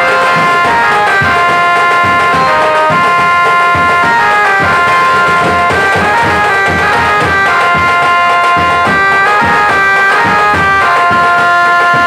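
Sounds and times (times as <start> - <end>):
fast steady drumming: 0.0 - 12.0
held wind-like melody: 0.0 - 12.0.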